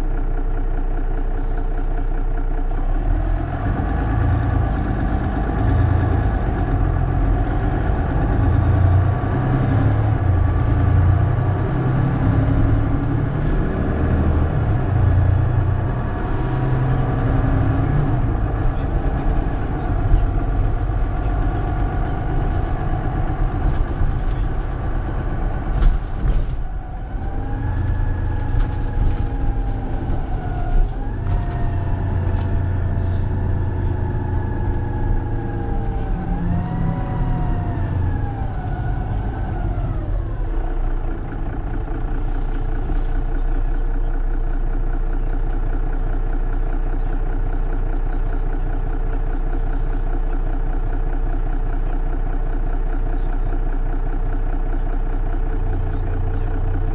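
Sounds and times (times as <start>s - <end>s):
bus diesel engine accelerating: 0.0s - 56.9s.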